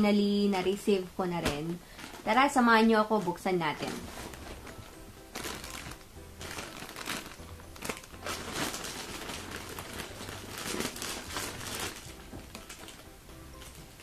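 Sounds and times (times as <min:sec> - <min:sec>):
background music: 0:00.0 - 0:14.0
plastic bag crinkling: 0:00.6 - 0:14.0.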